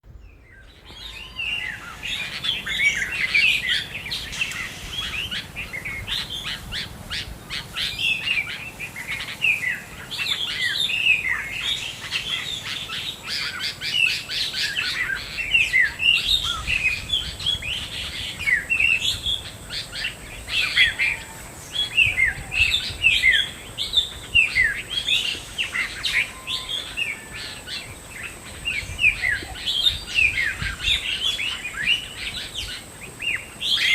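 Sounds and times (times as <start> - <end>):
many birds chirping: 0.0 - 33.9.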